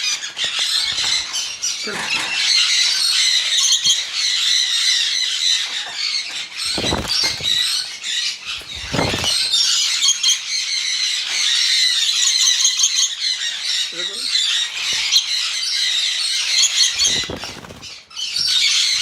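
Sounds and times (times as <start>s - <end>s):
parrots squawking and screeching: 0.0s - 19.0s.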